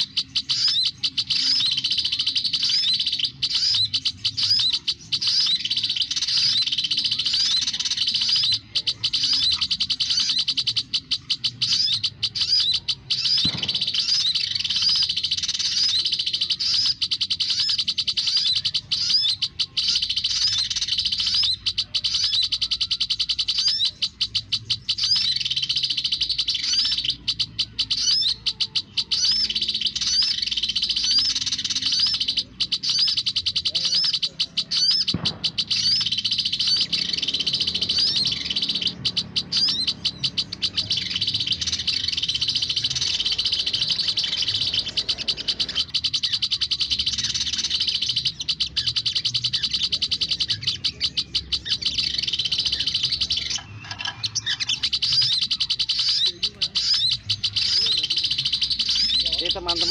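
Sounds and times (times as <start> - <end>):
bird chirping rapidly: 0.0 - 59.9.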